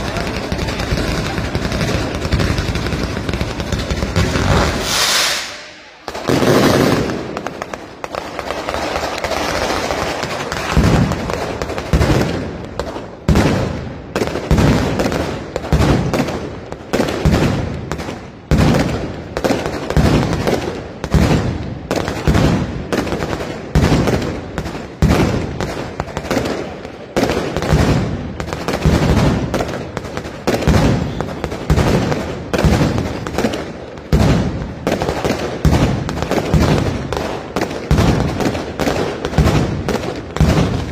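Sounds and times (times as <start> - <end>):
firecracker crackling: 0.0 - 40.9.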